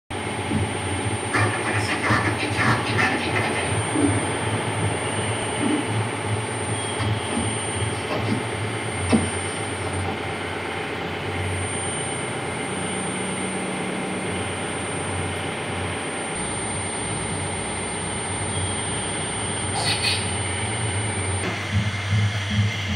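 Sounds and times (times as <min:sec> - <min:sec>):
dense electronic rumbling drone: 0:00.1 - 0:22.9
faint high whine: 0:00.2 - 0:22.9.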